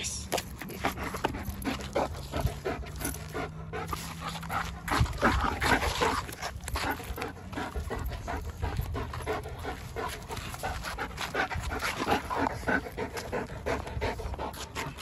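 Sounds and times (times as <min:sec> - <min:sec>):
dog panting hard: 0:00.5 - 0:15.0.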